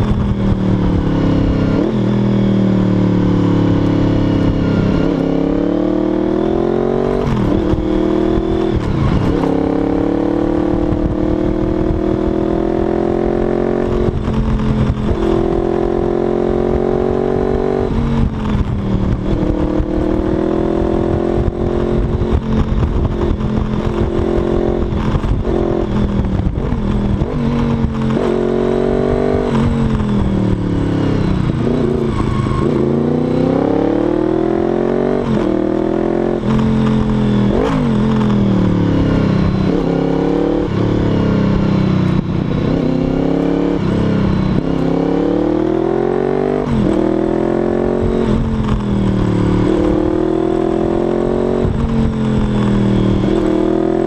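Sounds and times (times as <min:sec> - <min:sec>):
motorcycle engine accelerating: 0:00.0 - 0:54.0
wind buffeting microphone: 0:00.0 - 0:54.0.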